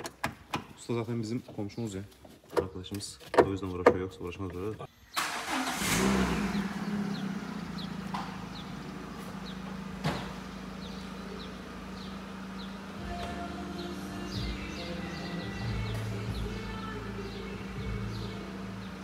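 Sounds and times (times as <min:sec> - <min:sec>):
car engine idling: 0:02.2 - 0:19.0.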